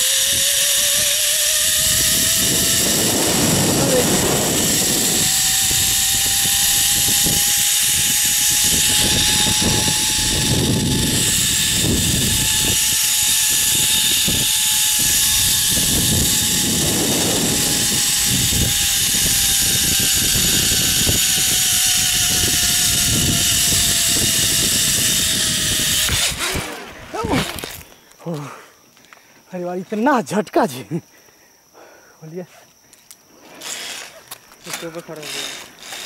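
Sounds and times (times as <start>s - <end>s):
zipline pulleys whining on cable: 0.0s - 27.9s, 33.3s - 36.0s.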